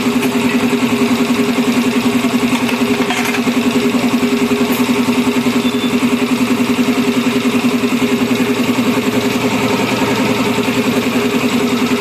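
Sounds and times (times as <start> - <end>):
motor running with even throb: 0.0 - 12.0.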